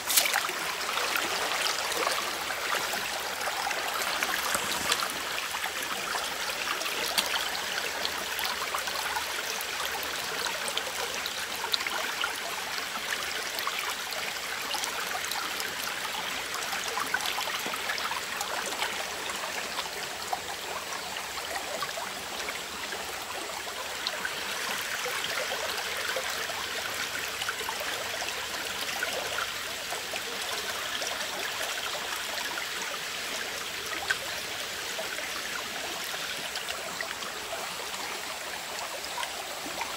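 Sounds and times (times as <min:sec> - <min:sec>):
stream rushing over bed: 0:00.0 - 0:39.9.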